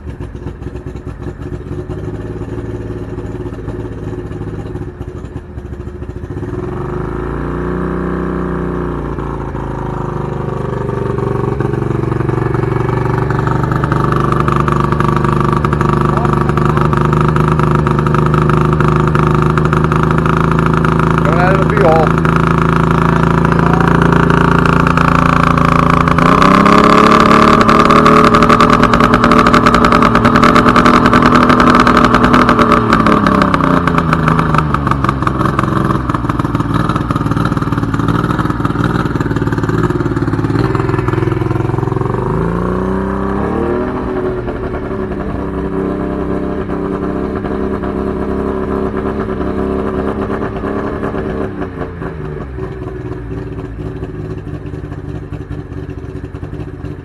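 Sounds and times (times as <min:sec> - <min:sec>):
outboard motor running: 0:00.0 - 0:07.4, 0:09.1 - 0:43.4, 0:44.0 - 0:57.0.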